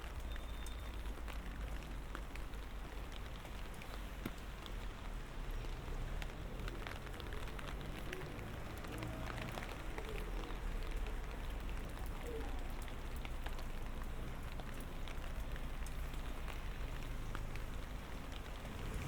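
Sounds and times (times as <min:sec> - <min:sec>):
light rain falling: 0:00.0 - 0:19.0
raindrops ticking: 0:00.0 - 0:19.0.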